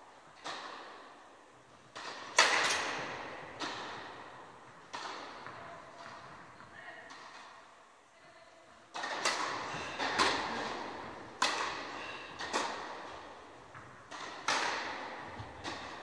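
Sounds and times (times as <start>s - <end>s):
tennis balls struck and bouncing: 0.4s - 1.2s, 1.8s - 7.6s, 8.9s - 16.0s.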